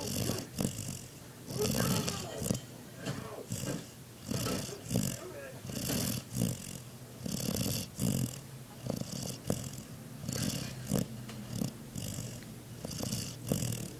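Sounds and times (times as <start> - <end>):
dog snoring: 0.0 - 13.9.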